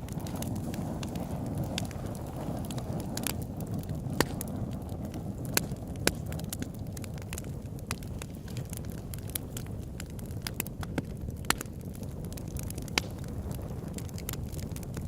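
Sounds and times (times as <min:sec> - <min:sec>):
campfire crackling: 0:00.0 - 0:15.0
sharp pops of fire: 0:00.0 - 0:15.0.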